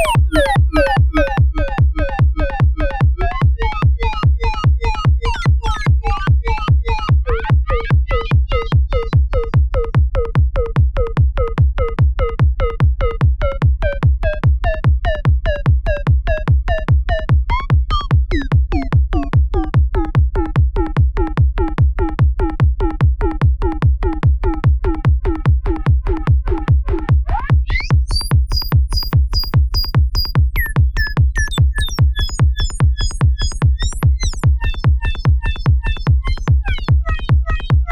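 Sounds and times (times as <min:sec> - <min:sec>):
techno beat with bassline: 0:00.0 - 0:37.9.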